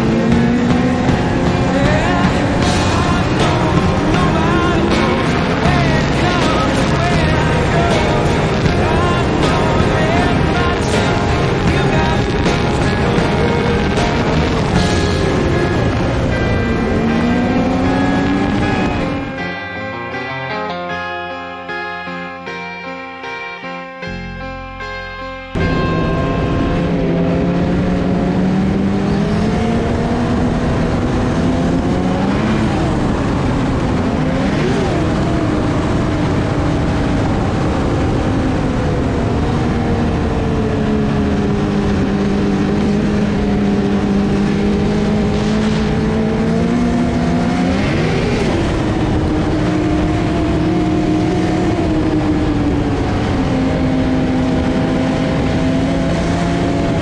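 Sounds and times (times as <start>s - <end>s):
snowmobile engine running: 0.0s - 21.2s, 25.5s - 57.0s.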